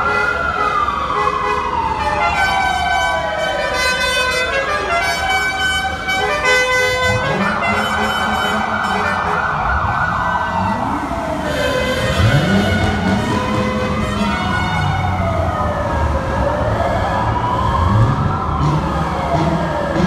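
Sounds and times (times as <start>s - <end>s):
novelty siren horns wailing: 0.0s - 20.0s.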